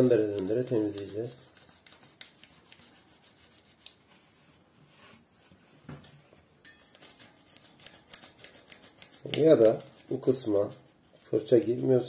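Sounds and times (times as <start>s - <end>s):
brush scrubbing bicycle hub: 0.0s - 4.3s, 6.6s - 12.0s.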